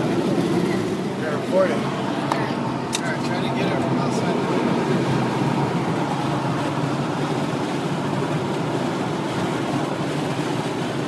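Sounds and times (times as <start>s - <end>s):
car interior driving noise: 0.0s - 11.0s.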